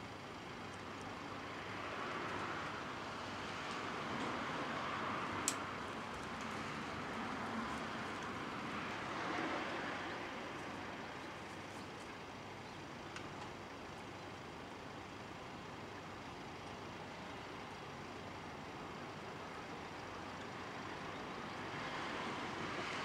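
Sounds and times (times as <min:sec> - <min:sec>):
steady traffic hum: 0:00.0 - 0:23.0.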